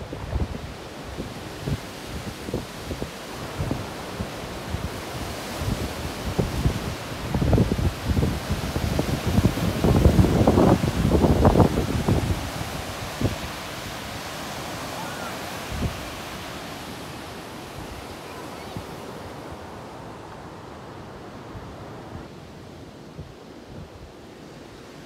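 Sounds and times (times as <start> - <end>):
surf breaking on shore: 0.0 - 23.7.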